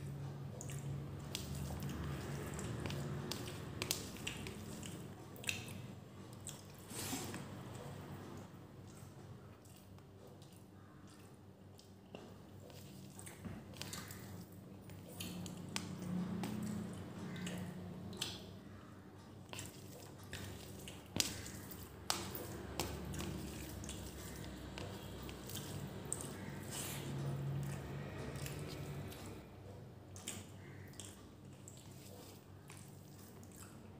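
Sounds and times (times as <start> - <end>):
rice squishing: 0.8 - 7.7, 11.8 - 18.8, 19.4 - 29.5, 30.2 - 33.8.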